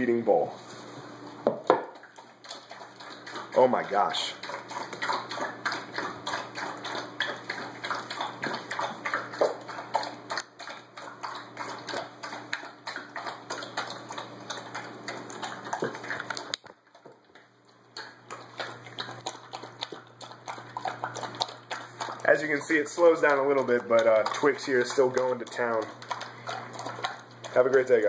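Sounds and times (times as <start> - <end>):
dog chewing and lapping: 1.8 - 28.0.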